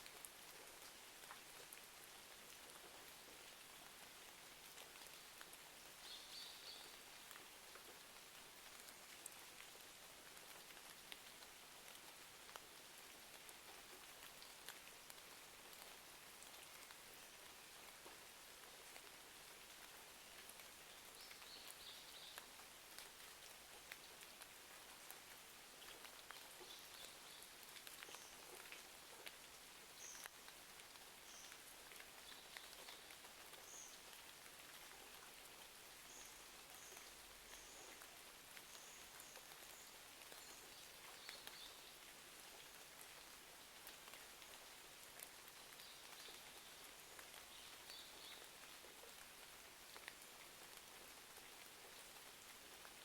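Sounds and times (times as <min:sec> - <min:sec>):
faint steady rain: 0:00.0 - 0:53.0.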